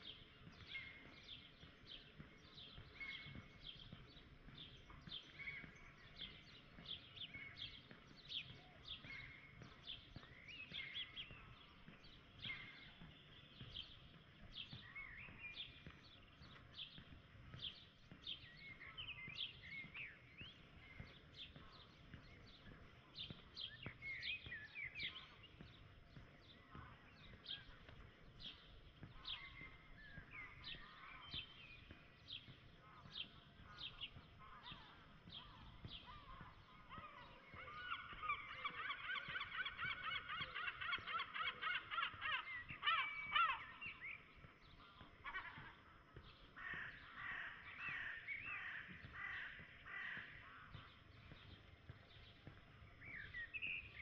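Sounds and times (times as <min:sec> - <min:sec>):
birds chirping and whistling: 0:00.0 - 0:17.0, 0:17.6 - 0:54.0.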